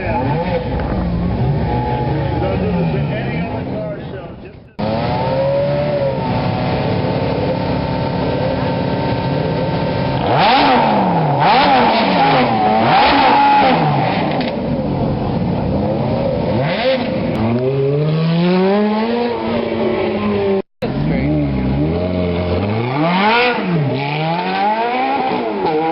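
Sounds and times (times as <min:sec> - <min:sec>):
sports car engine revving: 0:00.0 - 0:04.0, 0:04.7 - 0:25.9.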